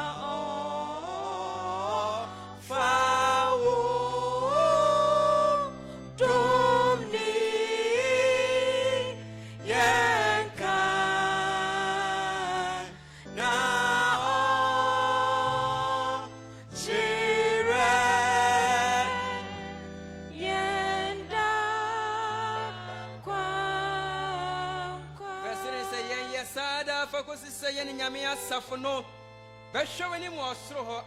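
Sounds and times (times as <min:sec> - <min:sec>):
congregation singing a hymn: 0:00.0 - 0:30.1.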